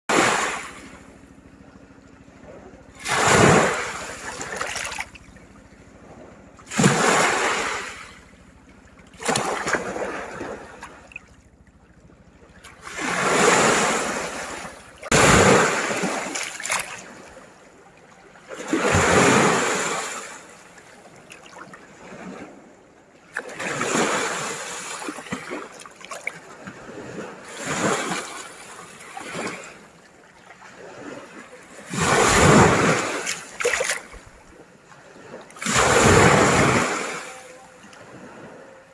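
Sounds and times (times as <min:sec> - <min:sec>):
sea waves breaking on shore: 0:00.1 - 0:38.9.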